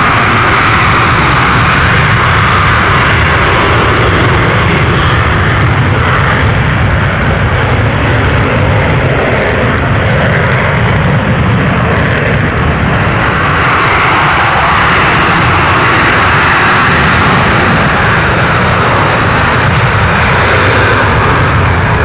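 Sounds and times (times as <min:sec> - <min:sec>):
jet engine roaring: 0:00.0 - 0:22.0.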